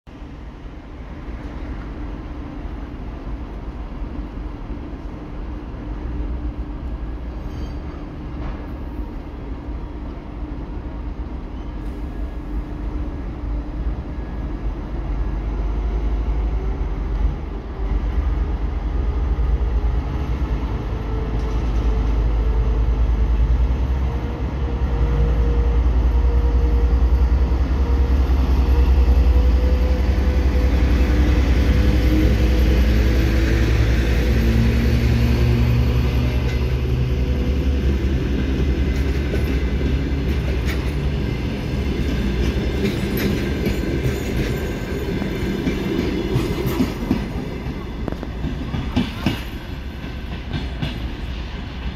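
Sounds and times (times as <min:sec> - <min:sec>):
diesel locomotive engine drone: 0:00.1 - 0:51.9.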